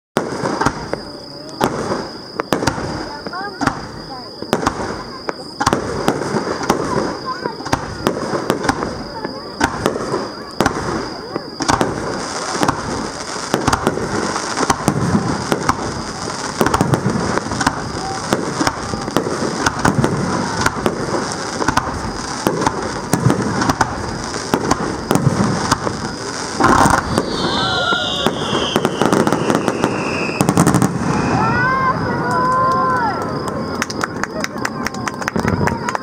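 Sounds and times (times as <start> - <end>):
fireworks bangs and crackle: 0.2 - 36.0.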